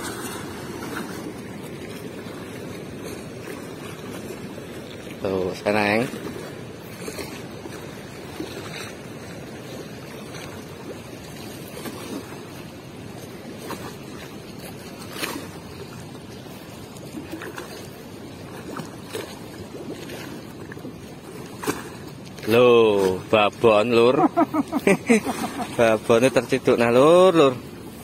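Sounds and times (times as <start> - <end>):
river water washing against bank: 0.0 - 28.0.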